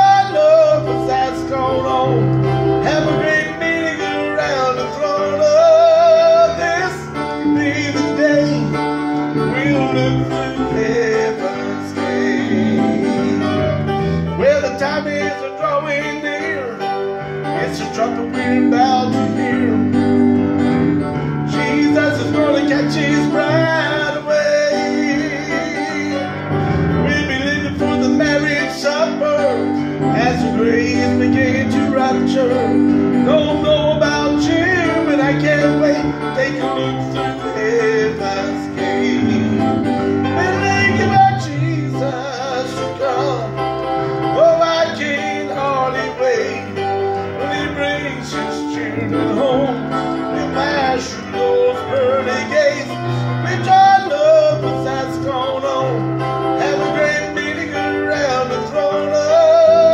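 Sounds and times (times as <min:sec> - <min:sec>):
electronic keyboard chords: 0:00.0 - 0:59.9
man singing gospel: 0:00.0 - 0:59.9.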